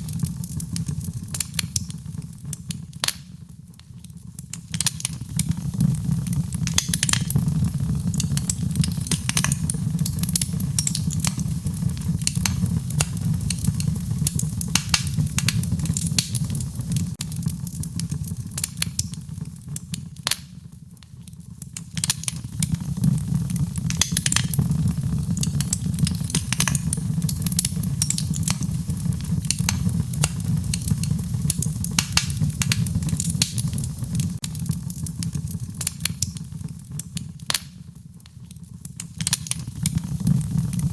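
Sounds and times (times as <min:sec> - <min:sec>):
fire crackling and popping: 0:00.0 - 0:40.9
low fire rumble: 0:00.0 - 0:40.9.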